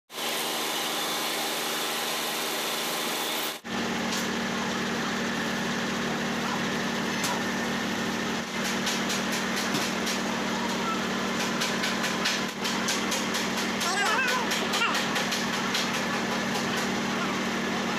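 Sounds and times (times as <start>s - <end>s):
rice mill machinery humming: 0.1s - 17.9s.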